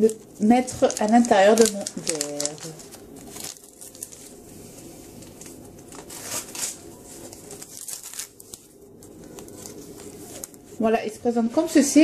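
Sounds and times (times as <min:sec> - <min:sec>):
paper wrapper crinkling: 0:00.0 - 0:10.9.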